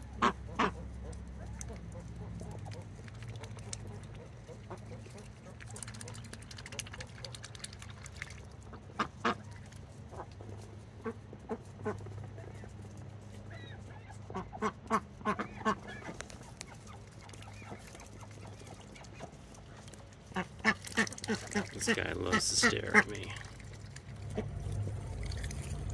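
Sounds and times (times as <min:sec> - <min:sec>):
ducks quacking: 0:00.0 - 0:25.9
low steady hum: 0:00.0 - 0:25.9.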